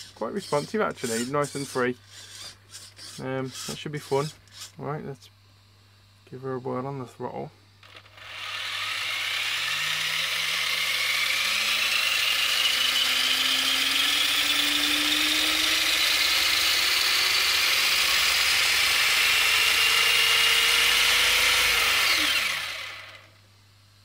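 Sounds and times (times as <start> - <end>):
toy truck motor whining: 0.0 - 4.8, 7.8 - 23.4.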